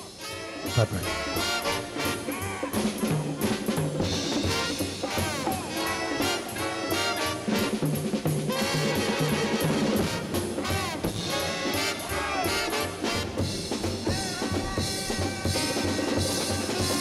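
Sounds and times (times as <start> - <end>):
upbeat jazzy music with brass: 0.0 - 17.0.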